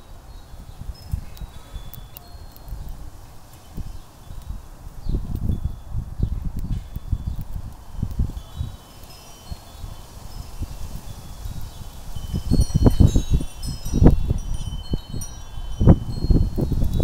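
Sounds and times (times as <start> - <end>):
wind buffeting microphone: 0.0 - 17.0
wind chimes ringing: 0.0 - 17.0.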